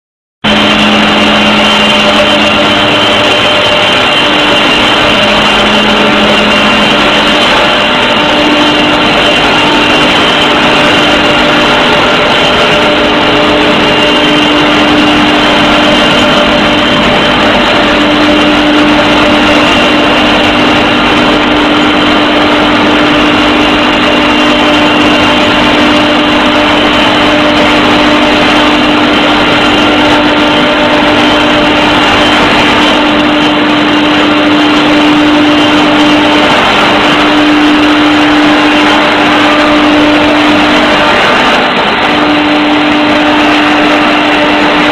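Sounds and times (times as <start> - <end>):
dryer machinery humming: 0.4 - 44.9.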